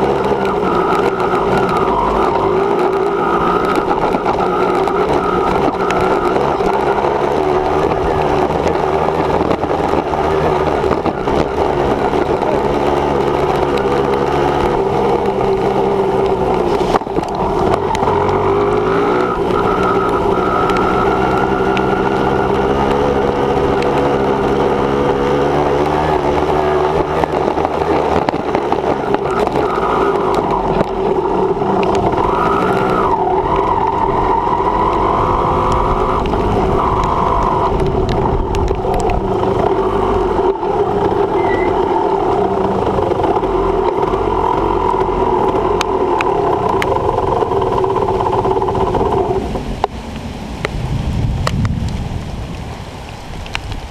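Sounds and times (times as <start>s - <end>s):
dirt bike engine revving: 0.0s - 49.6s.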